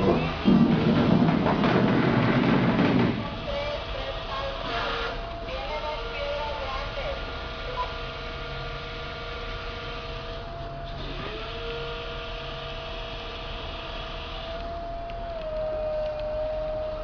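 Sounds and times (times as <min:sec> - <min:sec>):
electric motor whine: 0:02.7 - 0:17.0.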